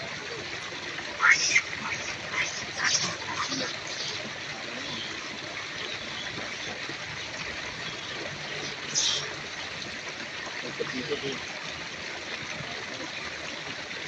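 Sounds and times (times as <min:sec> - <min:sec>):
rushing water-like noise: 0:00.0 - 0:14.0.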